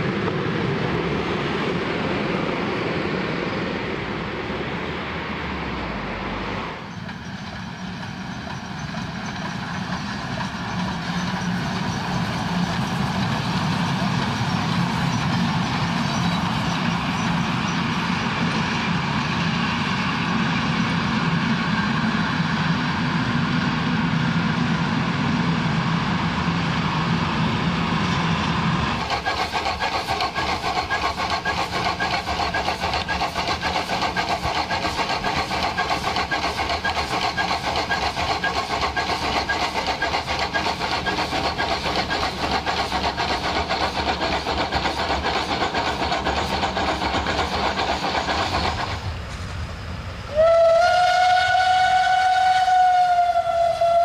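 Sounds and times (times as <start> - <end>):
steam locomotive running past: 0.0 - 54.0.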